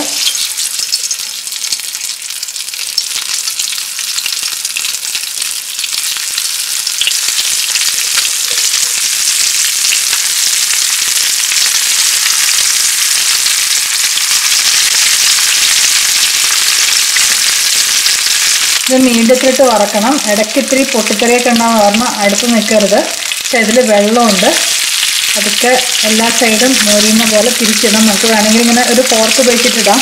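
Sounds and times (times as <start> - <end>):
oil sizzling and crackling: 0.0 - 30.0.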